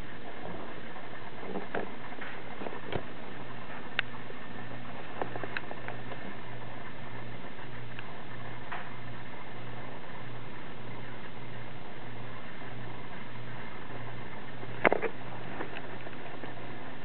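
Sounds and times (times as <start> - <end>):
low hum: 0.0 - 17.0
steady hiss: 0.0 - 17.0.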